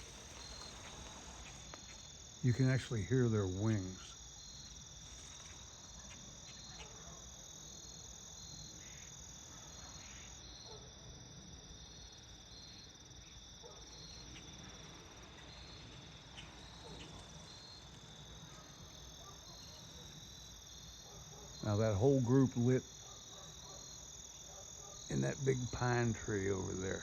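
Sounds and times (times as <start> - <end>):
insect high trill: 0.0 - 10.7, 11.7 - 27.0.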